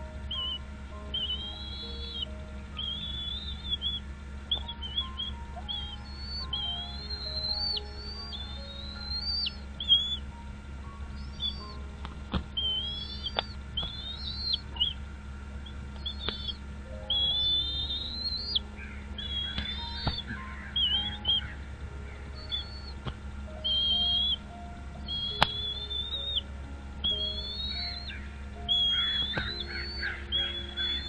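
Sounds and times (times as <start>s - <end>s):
steady low hum: 0.0s - 31.0s
bird whistled chirps: 0.3s - 10.3s, 11.1s - 11.9s, 12.5s - 15.0s, 15.6s - 31.0s.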